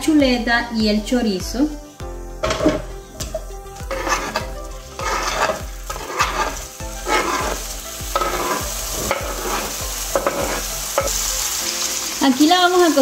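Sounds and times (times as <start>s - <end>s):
meat sizzling in hot oil: 1.5s - 13.0s.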